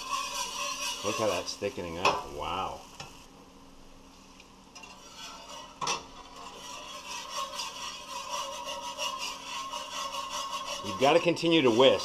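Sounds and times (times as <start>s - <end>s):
whisk scraping a pan: 0.0s - 2.8s, 4.8s - 12.0s.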